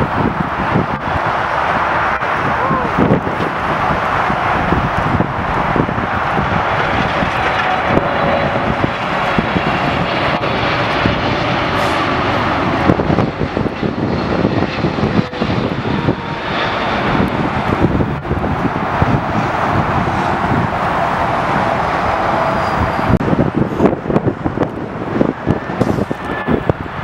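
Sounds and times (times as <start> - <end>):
airliner engines roaring: 0.0 - 27.0
faint engine whine: 0.0 - 27.0.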